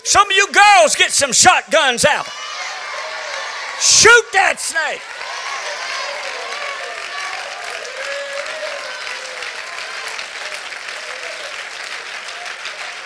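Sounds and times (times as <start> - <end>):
congregation applauding: 2.1 - 13.0.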